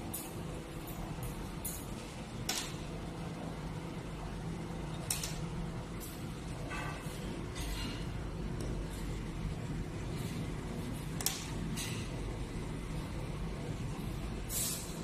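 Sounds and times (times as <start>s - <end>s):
machine conveyor low hum: 0.0s - 15.0s.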